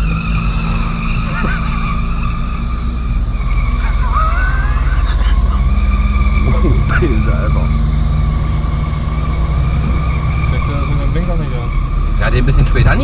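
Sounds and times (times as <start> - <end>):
car engine running: 0.0 - 13.0
high-pitched tyre squeal: 0.0 - 13.0
road noise: 0.0 - 13.0.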